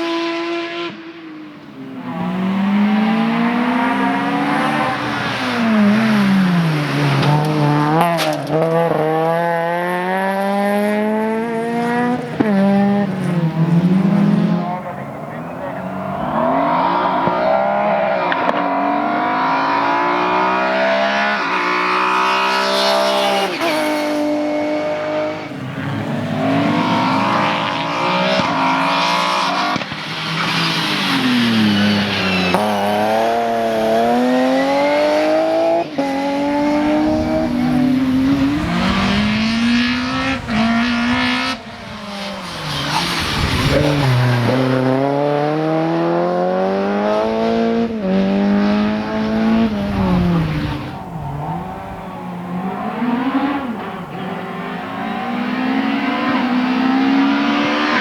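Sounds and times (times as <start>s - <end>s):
race car engine revving: 1.9s - 58.0s.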